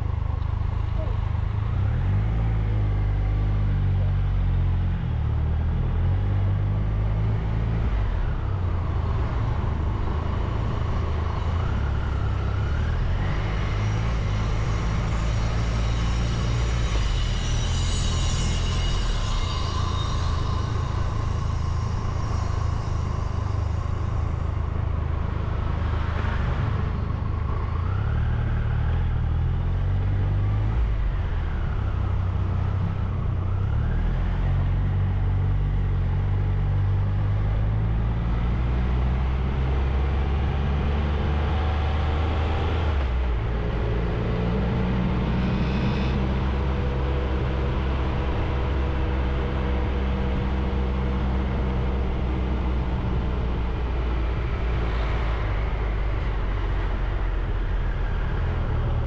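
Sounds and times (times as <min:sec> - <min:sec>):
road noise: 0:00.0 - 0:59.0.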